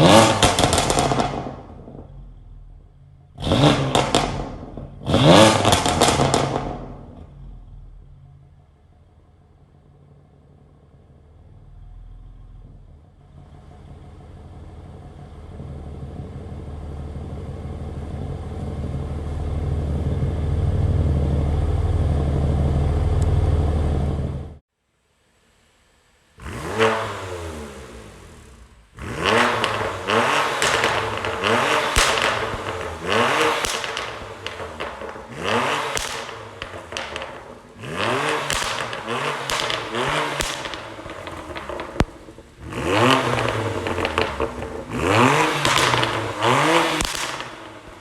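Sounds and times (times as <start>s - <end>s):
engine throttle blips: 0.0s - 24.6s, 26.4s - 48.0s
exhaust crackles and pops: 0.0s - 24.6s, 25.4s - 48.0s
car engine drone: 0.0s - 48.0s.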